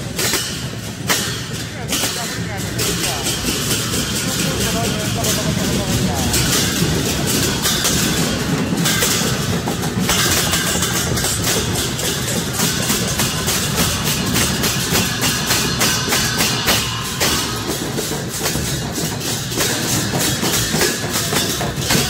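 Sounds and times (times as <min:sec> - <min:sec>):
barrel drums beating: 0:00.0 - 0:22.0
hand cymbals clashing: 0:00.0 - 0:22.0.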